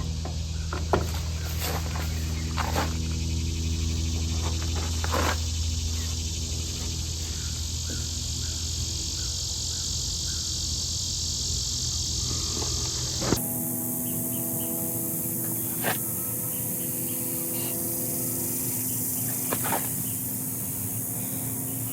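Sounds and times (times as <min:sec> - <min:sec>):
insects chirping: 0:00.0 - 0:21.9
machine hum: 0:00.0 - 0:21.9.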